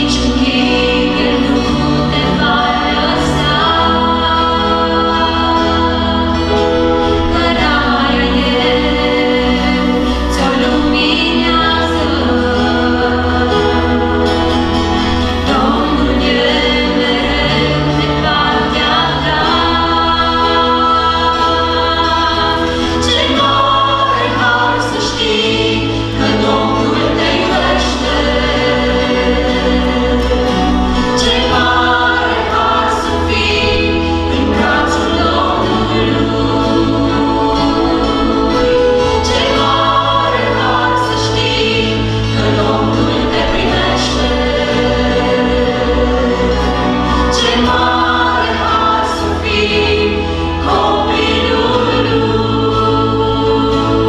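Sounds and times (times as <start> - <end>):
group singing a gospel hymn: 0.0 - 54.0
guitar accompaniment: 0.0 - 54.0
low bass notes: 0.0 - 54.0.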